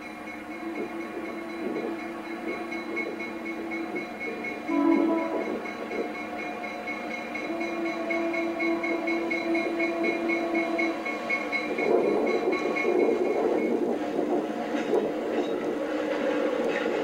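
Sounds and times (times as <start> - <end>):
pulsing steady tone: 0.0 - 15.6
diesel locomotive engine running: 0.0 - 17.0
rail noise: 0.0 - 17.0.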